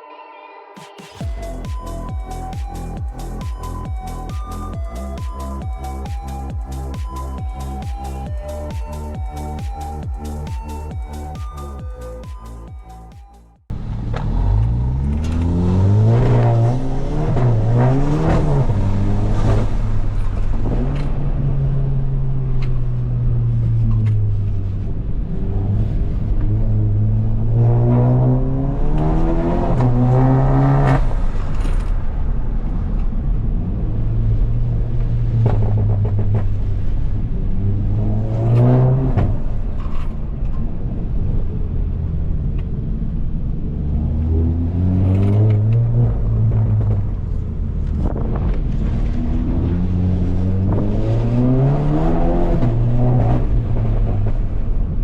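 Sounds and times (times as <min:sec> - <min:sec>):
car engine revving: 0:01.2 - 0:13.0, 0:13.7 - 0:31.7, 0:34.0 - 0:40.1, 0:43.1 - 0:55.0.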